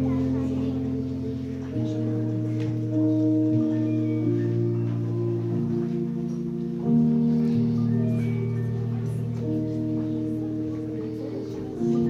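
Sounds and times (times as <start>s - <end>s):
slow instrumental chords: 0.0s - 12.0s.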